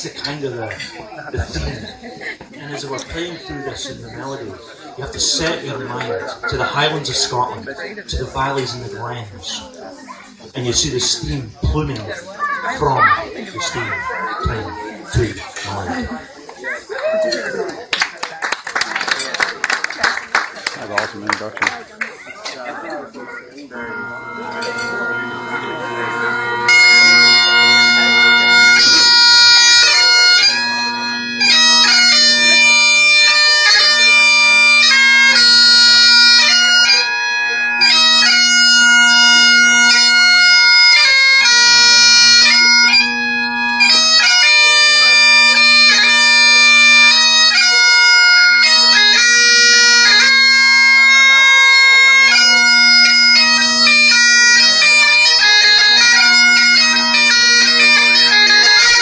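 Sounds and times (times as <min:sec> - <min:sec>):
bagpipes playing: 0:00.0 - 0:16.3, 0:22.5 - 0:59.0.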